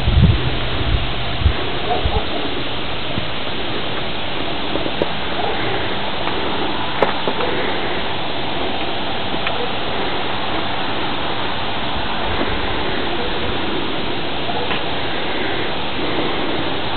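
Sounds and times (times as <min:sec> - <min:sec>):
steady rushing noise: 0:00.0 - 0:16.9.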